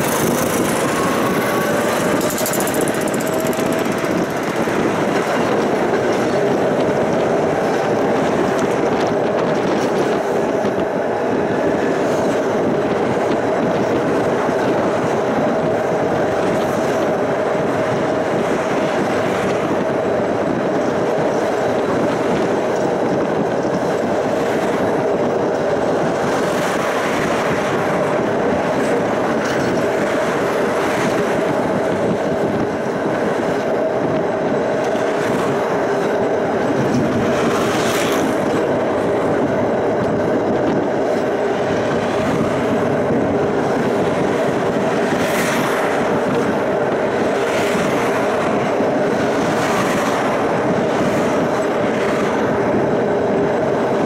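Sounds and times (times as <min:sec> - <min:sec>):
tram wheels rumbling on rail: 0:00.0 - 0:54.0.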